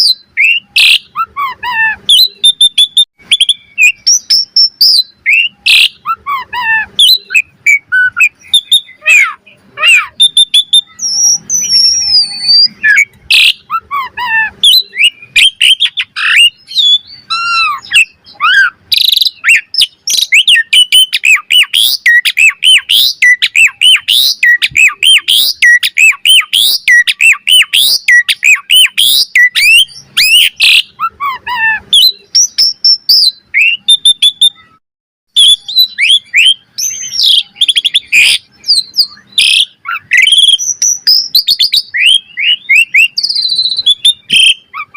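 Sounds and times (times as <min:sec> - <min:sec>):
starling singing: 0:00.0 - 0:44.9.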